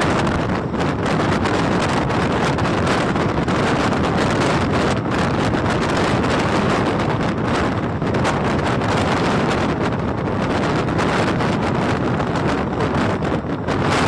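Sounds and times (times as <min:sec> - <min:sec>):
train running on rails: 0:00.0 - 0:14.0
wind buffeting microphone: 0:00.0 - 0:14.0.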